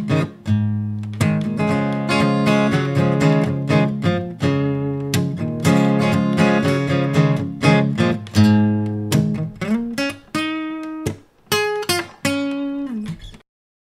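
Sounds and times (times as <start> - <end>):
acoustic guitar music: 0.0 - 13.4.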